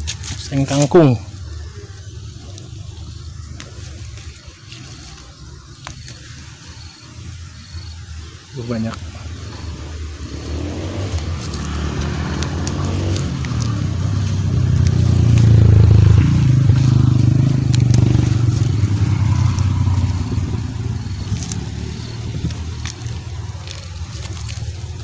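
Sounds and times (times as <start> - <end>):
leafy stems rustling and crackling: 0.0 - 25.0
low rumble: 1.2 - 25.0.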